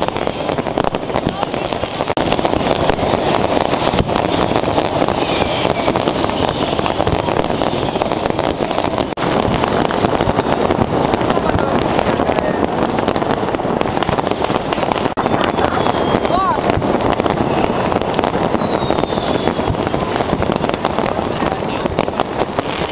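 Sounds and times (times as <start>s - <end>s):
fireworks crackling and banging: 0.0s - 22.9s.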